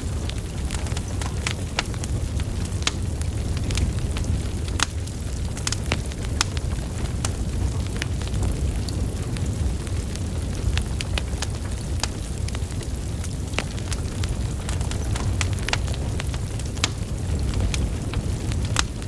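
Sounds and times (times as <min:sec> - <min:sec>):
burning logs crackling and popping: 0:00.0 - 0:19.0
flames rumbling: 0:00.0 - 0:19.0.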